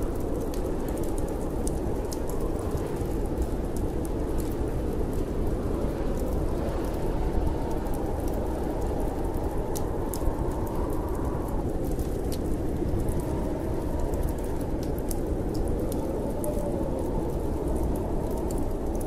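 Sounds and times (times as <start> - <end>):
low wind of snowstorm: 0.0 - 19.0
wood fire crackling: 0.0 - 19.0.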